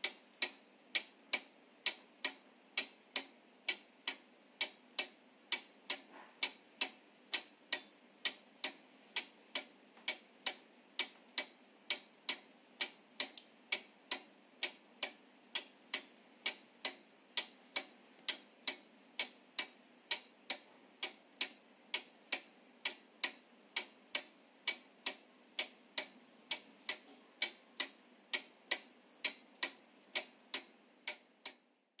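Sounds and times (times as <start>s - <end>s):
mechanical clock ticking: 0.0s - 31.7s.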